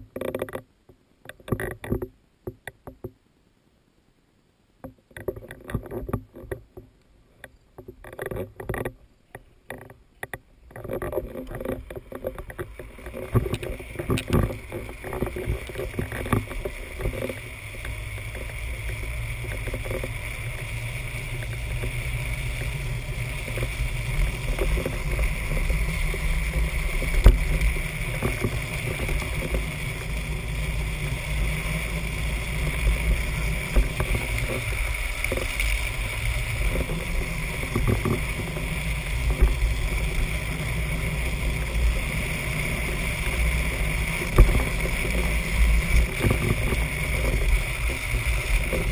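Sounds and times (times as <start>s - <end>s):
wheels scraping on asphalt: 4.9s - 48.9s.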